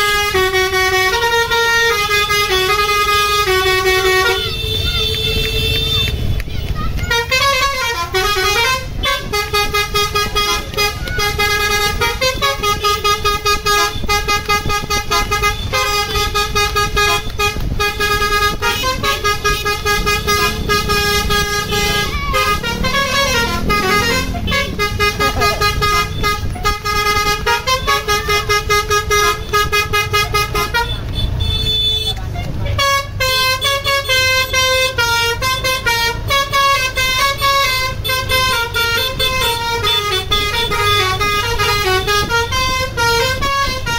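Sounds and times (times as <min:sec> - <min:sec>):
musical air horn tune: 0:00.0 - 0:06.0, 0:07.1 - 0:31.0, 0:32.8 - 0:43.9
bus engine running: 0:00.0 - 0:43.9.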